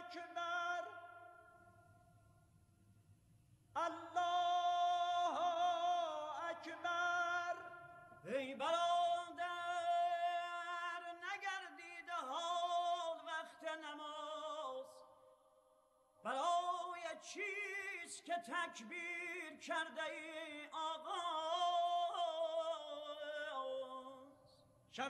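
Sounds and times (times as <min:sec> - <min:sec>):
man chanting call to prayer: 0:00.0 - 0:01.7, 0:03.8 - 0:15.2, 0:16.3 - 0:25.0.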